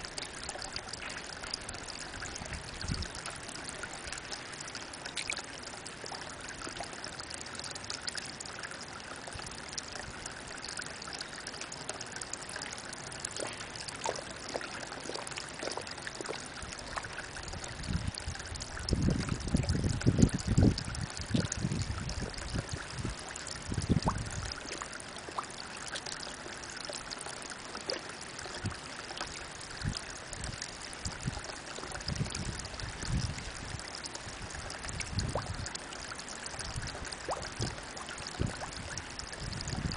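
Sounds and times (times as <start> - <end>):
water trickling into a pond: 0.0 - 39.9.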